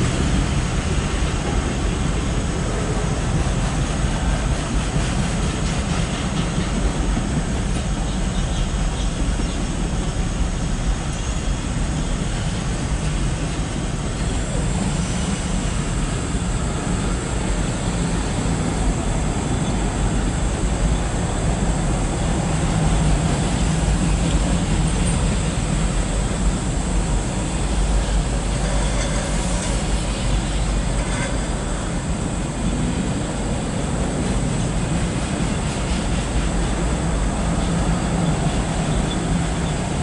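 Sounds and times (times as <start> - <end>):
freight train wheels rumbling: 0.0 - 40.0.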